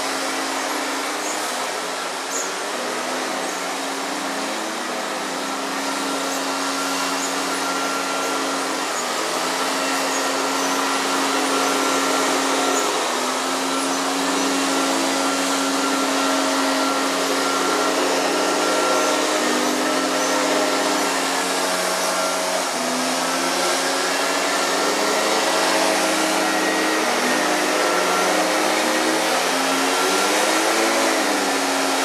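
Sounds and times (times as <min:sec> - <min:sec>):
machine motor droning: 0:00.0 - 0:32.0.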